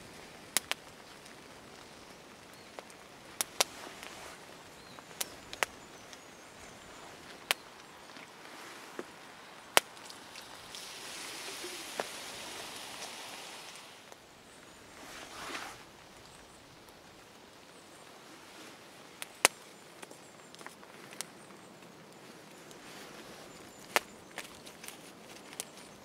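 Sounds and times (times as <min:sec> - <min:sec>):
campfire crackling and popping: 0:00.0 - 0:22.8, 0:23.5 - 0:26.0
soft fire hiss: 0:00.0 - 0:26.0.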